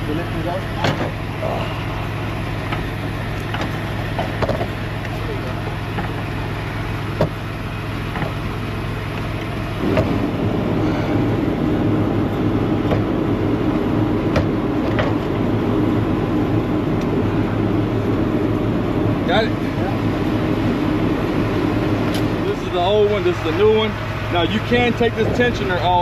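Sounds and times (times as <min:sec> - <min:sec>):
loud machine running noise: 0:00.0 - 0:26.0
low machine hum: 0:00.0 - 0:26.0.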